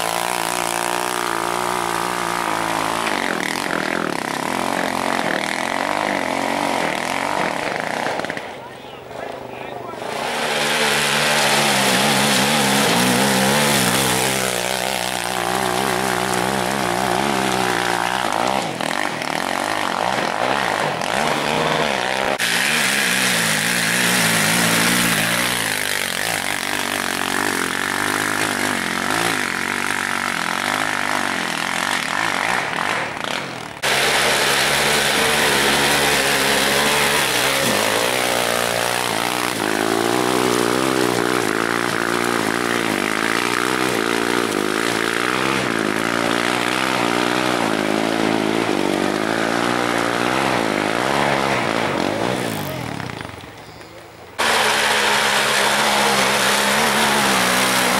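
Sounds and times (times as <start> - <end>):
off-road vehicle engines revving: 0.0 - 57.9.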